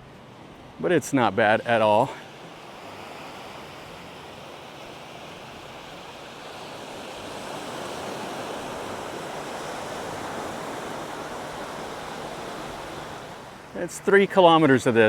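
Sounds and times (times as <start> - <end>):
sea surf on a sandy beach: 0.0 - 15.0.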